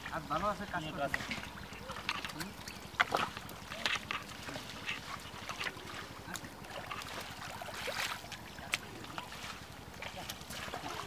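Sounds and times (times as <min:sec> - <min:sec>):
mud squelching and sloshing: 0:00.0 - 0:11.0
steady low hum: 0:00.0 - 0:11.0
short splashes: 0:01.1 - 0:11.0.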